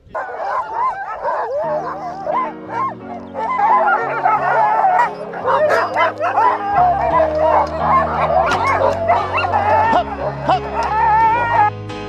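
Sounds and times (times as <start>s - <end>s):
background music low chords: 0.0s - 12.0s
sled dogs yelping and howling: 0.2s - 11.8s.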